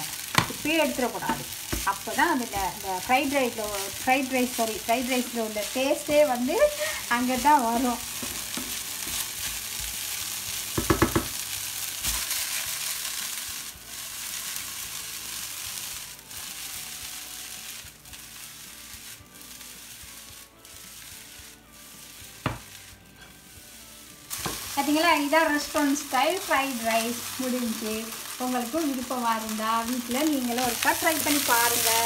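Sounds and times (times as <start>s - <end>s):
rice sizzling in a frying pan: 0.0s - 32.0s.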